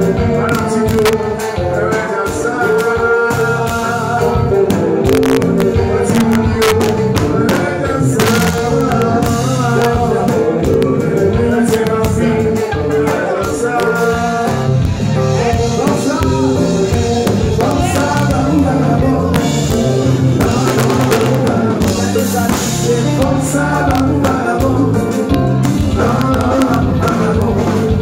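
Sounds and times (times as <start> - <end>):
drum kit: 0.0 - 28.0
electric bass: 0.0 - 28.0
keyboard: 0.0 - 28.0
man singing: 0.0 - 28.0.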